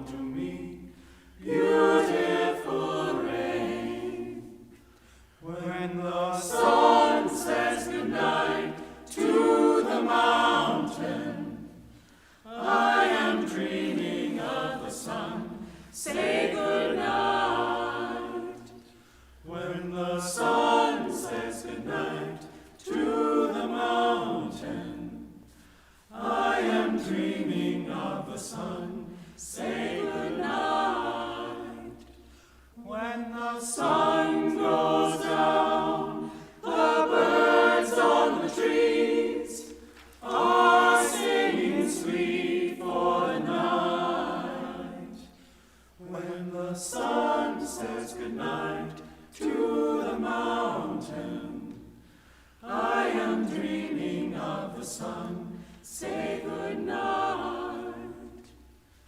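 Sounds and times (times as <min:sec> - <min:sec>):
vocal ensemble singing a cappella: 0:00.0 - 0:59.0.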